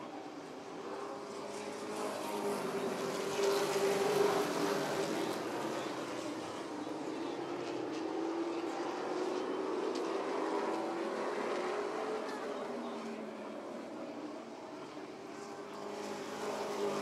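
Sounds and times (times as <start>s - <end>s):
race car engines at speed: 0.0s - 17.0s.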